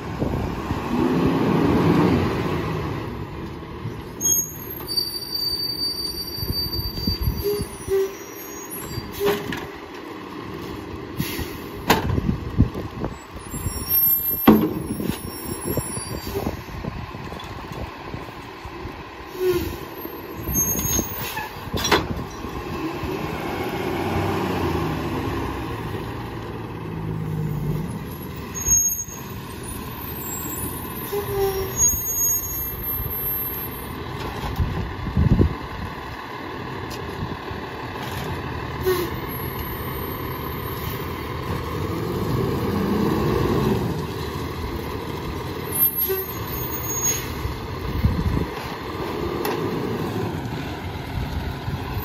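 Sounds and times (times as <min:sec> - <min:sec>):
garbage truck engine under load: 0:00.0 - 0:52.0.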